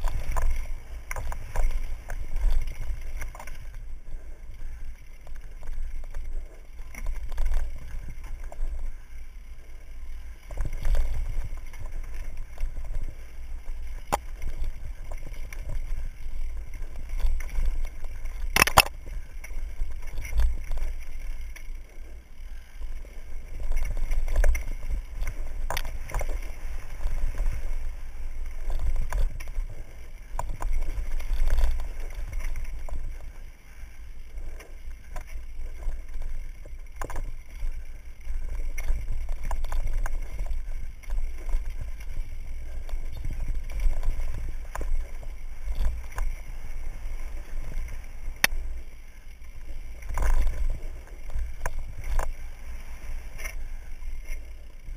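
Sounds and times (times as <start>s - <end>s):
bike clattering over rough ground: 0.0s - 54.9s
wind rumbling on microphone: 0.0s - 54.9s.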